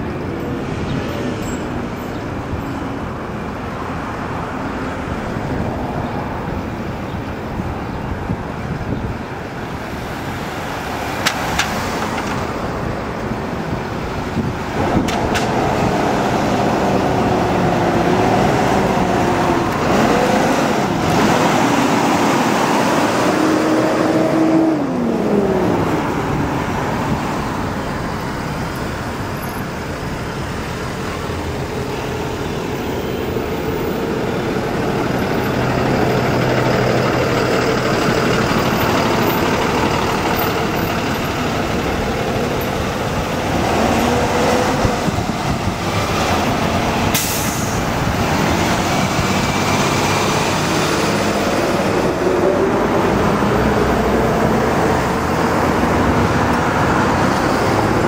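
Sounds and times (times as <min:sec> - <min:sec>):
passing vehicle engines: 0:00.0 - 0:58.0
road traffic: 0:00.0 - 0:58.0.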